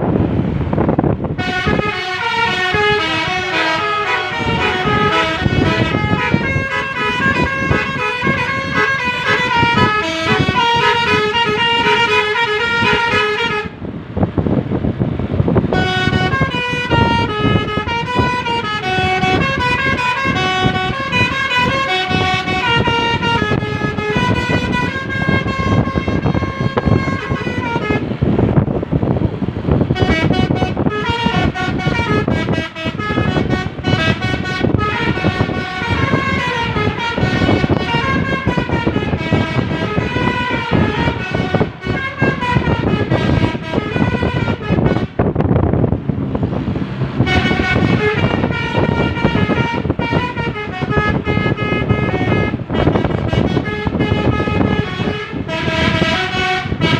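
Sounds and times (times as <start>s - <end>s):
engine and road noise: 0.0s - 56.9s
multi-tone air horn tune: 1.4s - 13.8s, 15.7s - 28.3s, 29.9s - 45.3s, 47.2s - 56.9s.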